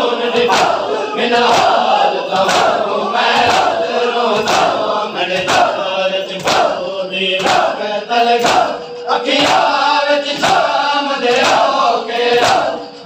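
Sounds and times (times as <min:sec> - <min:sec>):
men chanting together: 0:00.0 - 0:13.0
chest beating slaps: 0:00.3 - 0:07.8, 0:08.4 - 0:09.8, 0:10.4 - 0:12.9.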